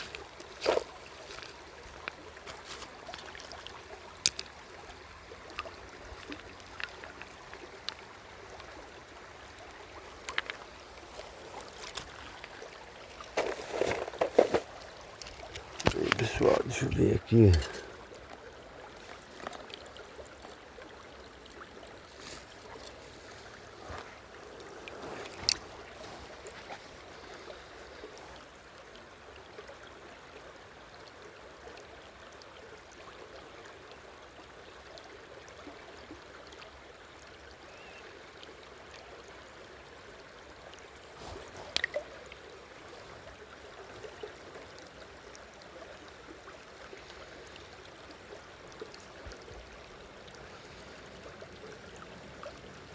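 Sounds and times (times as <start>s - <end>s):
stream water running: 0.0s - 52.9s.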